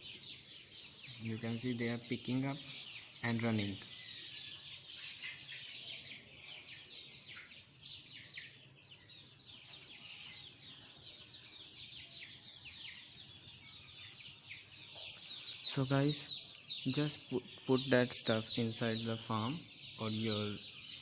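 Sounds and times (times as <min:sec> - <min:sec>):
chickens peeping and clucking: 0:00.0 - 0:21.0.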